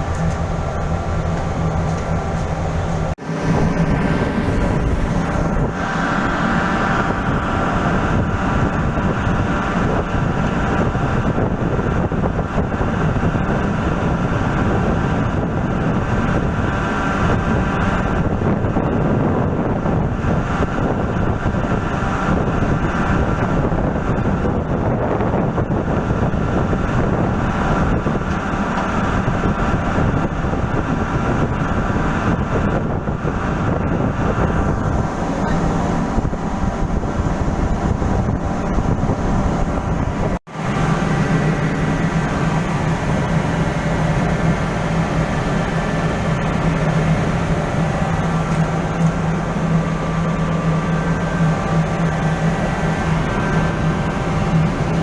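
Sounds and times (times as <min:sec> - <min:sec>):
steady machinery drone: 0:00.0 - 0:55.0.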